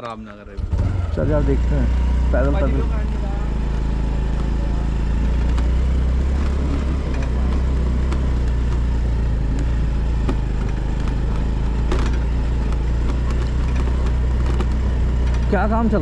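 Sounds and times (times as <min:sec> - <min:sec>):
motor scooter running: 0:00.0 - 0:16.0.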